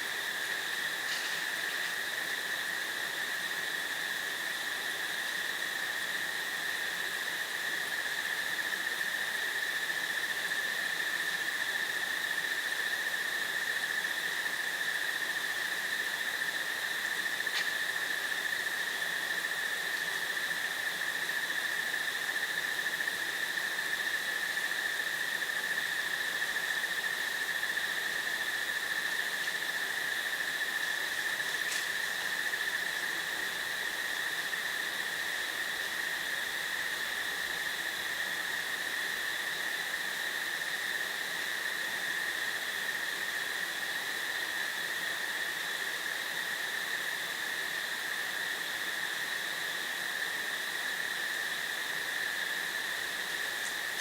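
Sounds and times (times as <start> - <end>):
soft hiss: 0.0 - 6.6, 10.7 - 54.0
crickets trilling: 0.0 - 54.0.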